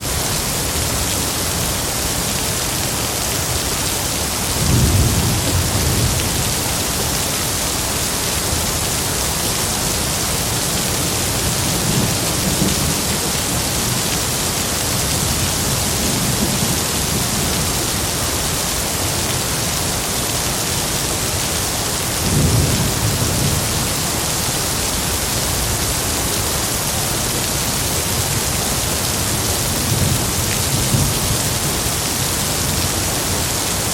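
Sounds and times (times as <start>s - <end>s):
heavy rainfall: 0.0s - 33.9s.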